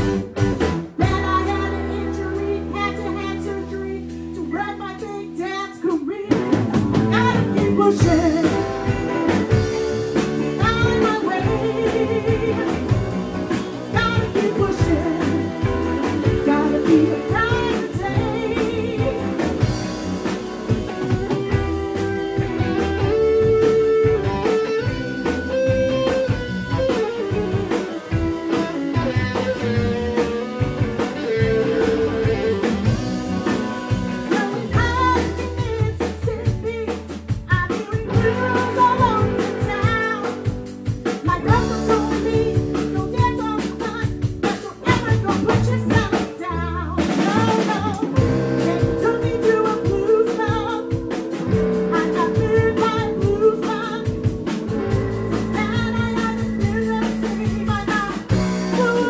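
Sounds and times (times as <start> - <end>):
drum kit: 0.0 - 59.0
electric bass: 0.0 - 59.0
electric guitars: 0.0 - 59.0
woman singing: 1.0 - 25.0, 31.2 - 59.0.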